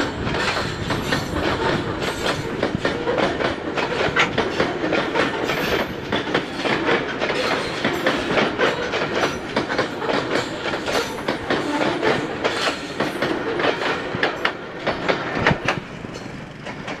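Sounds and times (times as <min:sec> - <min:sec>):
freight wagons rumbling and rattling: 0:00.0 - 0:17.0
train wheels clacking over rail joints: 0:00.0 - 0:17.0.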